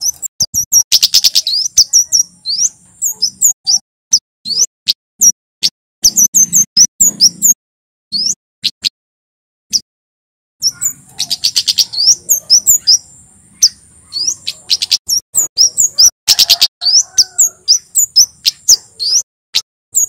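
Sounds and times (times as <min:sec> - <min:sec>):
songbird singing sharp chirps: 0:00.0 - 0:05.4, 0:06.0 - 0:08.9, 0:10.6 - 0:19.3.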